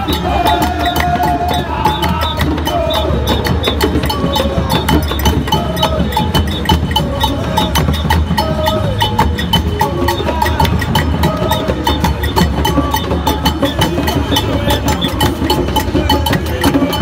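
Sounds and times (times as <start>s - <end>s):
music with percussive beat: 0.0s - 17.0s.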